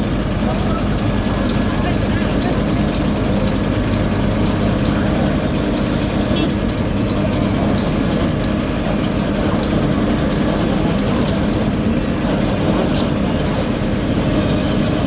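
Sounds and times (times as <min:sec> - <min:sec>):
diesel paving machinery running: 0:00.0 - 0:15.0.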